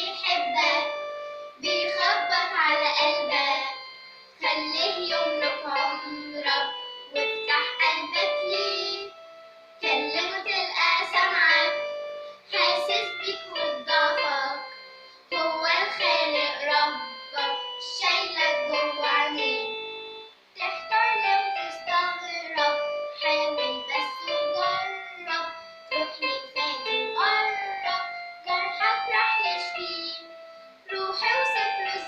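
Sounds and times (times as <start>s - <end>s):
girl singing: 0.0s - 32.0s
keyboard playing held notes: 0.0s - 32.0s.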